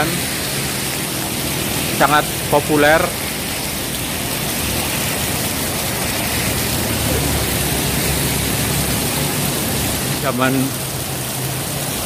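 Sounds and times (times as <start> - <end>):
heavy rain pouring: 0.0 - 12.0
motorbike engines humming: 0.0 - 12.0.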